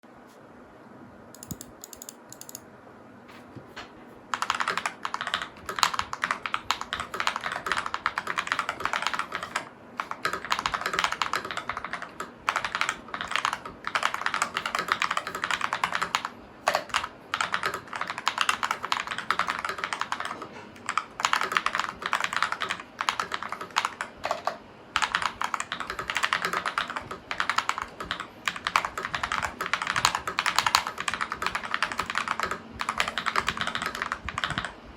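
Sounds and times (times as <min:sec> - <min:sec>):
mechanical keyboard typing: 0:01.4 - 0:02.6, 0:04.3 - 0:34.8.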